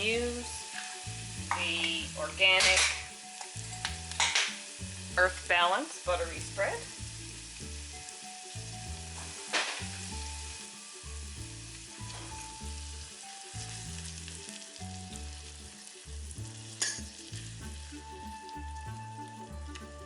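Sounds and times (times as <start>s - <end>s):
onions sizzling in a frying pan: 0.0s - 20.0s.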